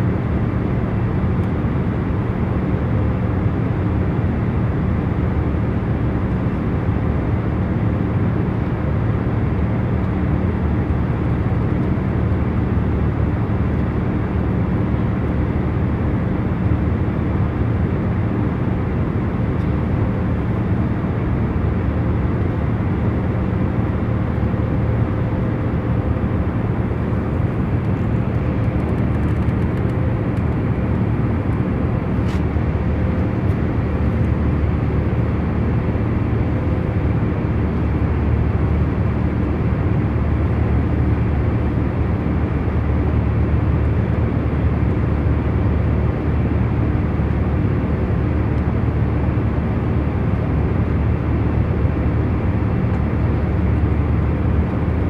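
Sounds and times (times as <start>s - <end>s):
airliner cabin rumble and hiss: 0.0s - 55.0s.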